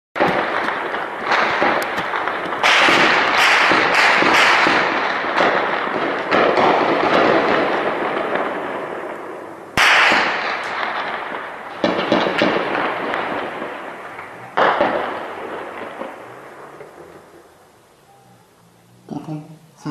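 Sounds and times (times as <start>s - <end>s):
heavy gunfire echoing: 0.2s - 17.4s.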